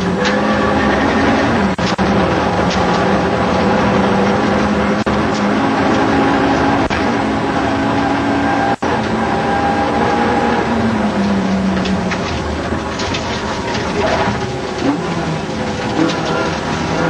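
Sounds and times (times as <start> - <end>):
car engine running hard: 0.0 - 17.0
road noise: 0.0 - 17.0.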